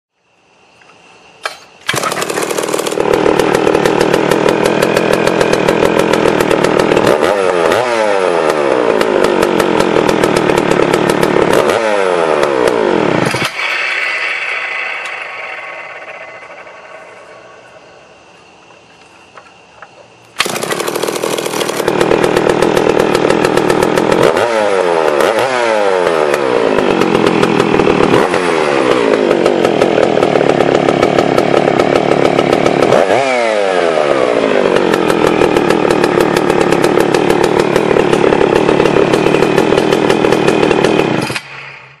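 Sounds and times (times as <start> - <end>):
chainsaw revving: 1.5 - 18.2, 20.4 - 42.0.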